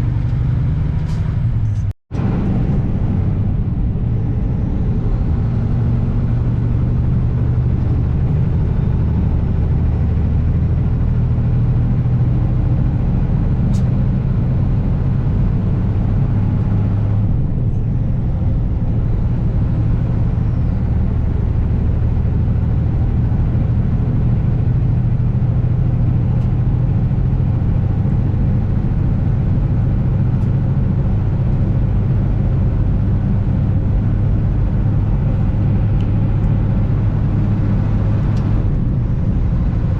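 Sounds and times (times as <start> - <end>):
diesel truck engine droning: 0.0 - 39.9
road and wind noise: 0.0 - 39.9.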